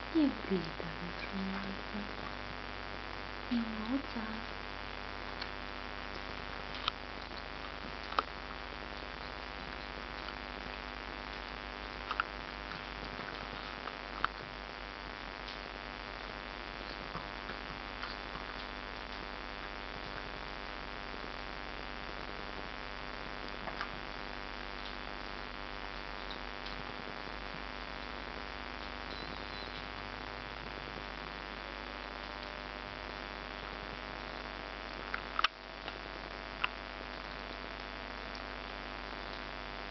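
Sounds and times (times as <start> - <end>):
electrical hum and hiss: 0.0 - 39.9.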